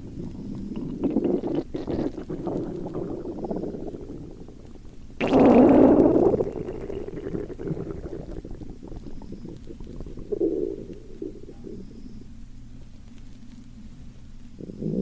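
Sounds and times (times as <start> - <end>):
stomach gurgling and rumbling: 0.0 - 15.0.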